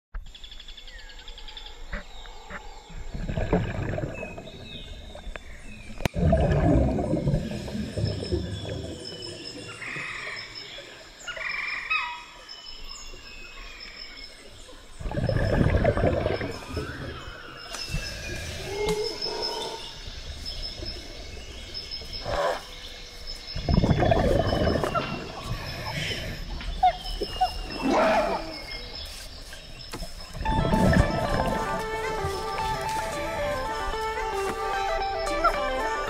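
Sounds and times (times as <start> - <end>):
birds chirping: 0.2 - 36.0
low rumbling water noise: 1.8 - 11.3, 14.6 - 34.4.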